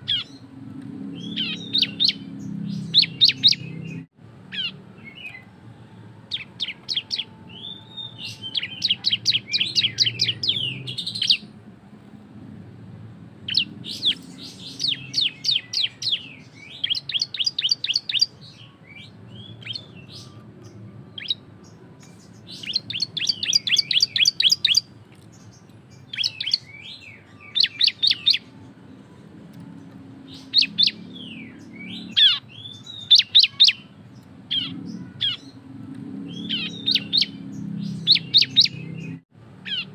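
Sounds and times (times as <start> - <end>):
bird singing sharp high chirps: 0.0 - 0.5, 1.2 - 5.5, 6.3 - 11.6, 13.4 - 28.6, 30.2 - 39.9.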